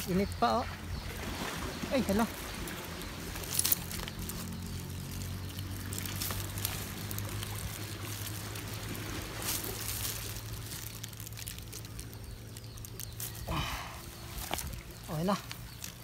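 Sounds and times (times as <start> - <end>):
water running and trickling: 0.0 - 16.0.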